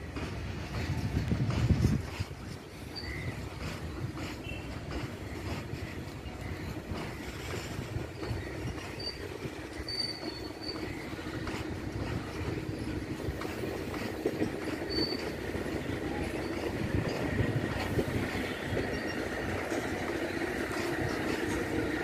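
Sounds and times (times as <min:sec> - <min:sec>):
freight wagons rumbling past: 0:00.0 - 0:22.0
high wheel squeals: 0:02.7 - 0:22.0.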